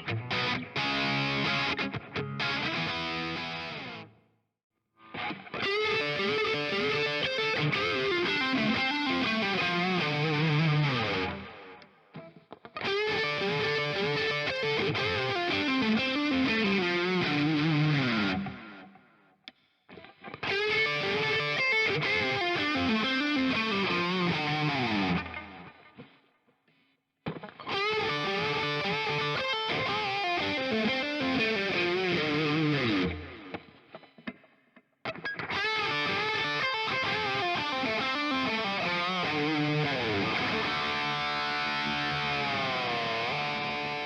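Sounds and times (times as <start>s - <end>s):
distorted electric guitar: 0.0s - 4.2s, 5.0s - 19.3s, 19.9s - 26.3s, 27.2s - 44.0s.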